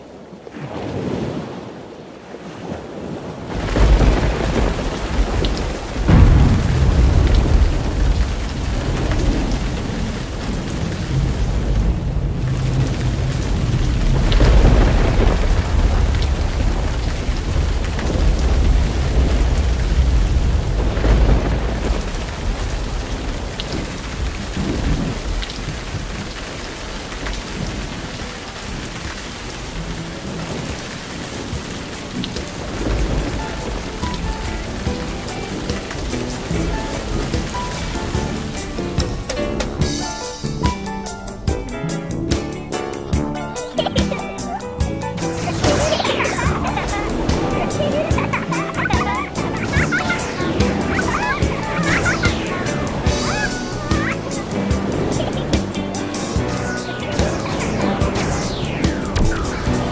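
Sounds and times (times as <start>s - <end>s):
heavy rain: 0.0s - 59.9s
thunder rumbling: 2.6s - 59.9s.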